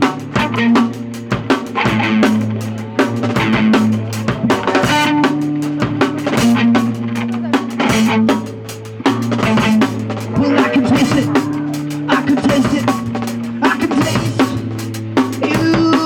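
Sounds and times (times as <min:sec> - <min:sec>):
bass guitar low notes: 0:00.0 - 0:16.0
electric guitar: 0:00.0 - 0:16.0
fast dense drumming: 0:00.0 - 0:16.0.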